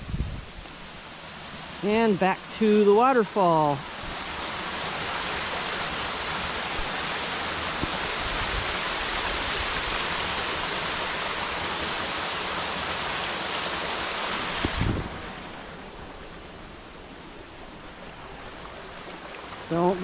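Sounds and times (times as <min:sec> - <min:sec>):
waterfall rushing: 0:00.8 - 0:17.0.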